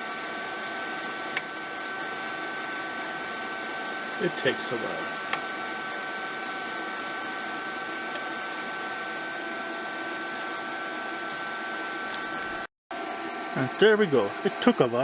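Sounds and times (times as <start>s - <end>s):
welding machine motor and fan hum: 0.0s - 15.0s.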